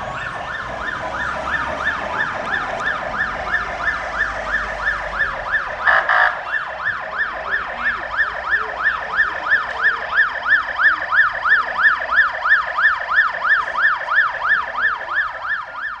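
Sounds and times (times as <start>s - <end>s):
ambulance siren yelp: 0.0s - 16.0s.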